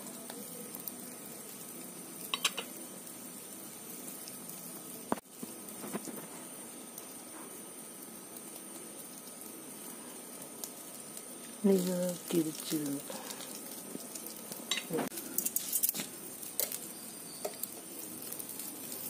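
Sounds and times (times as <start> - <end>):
chicken sizzling on grill: 0.0 - 19.0.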